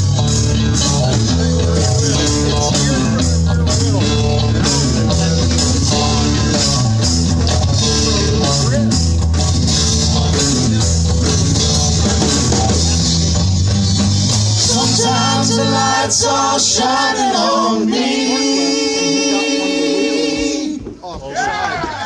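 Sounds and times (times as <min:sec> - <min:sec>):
instrumental rock music: 0:00.0 - 0:18.3.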